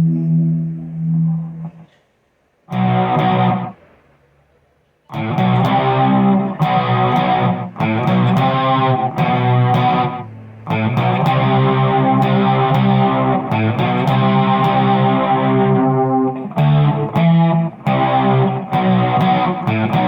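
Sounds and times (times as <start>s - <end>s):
electric guitar strumming chords: 0.0s - 1.8s, 2.7s - 4.0s, 5.1s - 20.0s.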